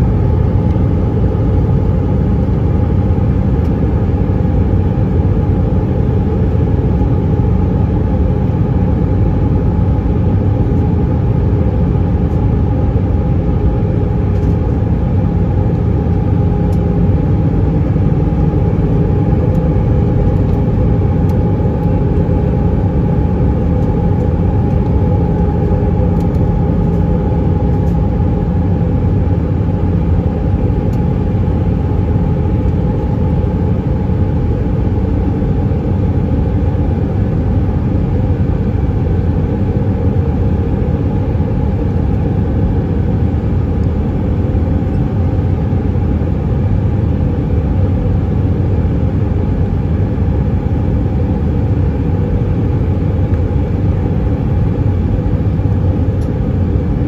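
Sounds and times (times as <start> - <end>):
jet engine drone in cabin: 0.0 - 57.0
steady hum: 0.0 - 57.0
airflow rushing over wing: 10.5 - 57.0.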